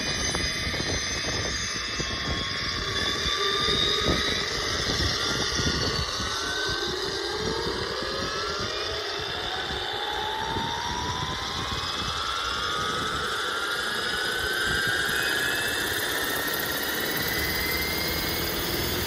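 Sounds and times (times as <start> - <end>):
model helicopter whine rising: 0.0 - 19.0.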